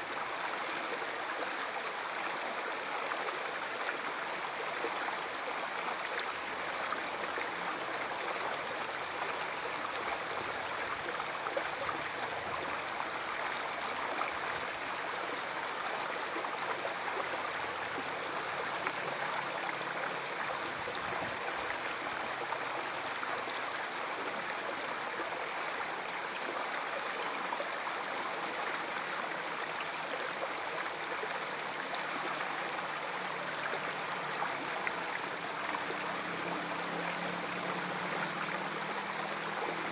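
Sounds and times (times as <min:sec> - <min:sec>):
river stream flowing: 0:00.0 - 0:39.9.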